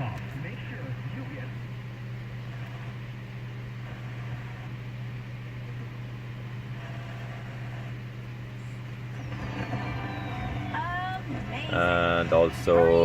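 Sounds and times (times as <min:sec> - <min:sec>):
minivan cabin hum and hiss: 0:00.0 - 0:13.0.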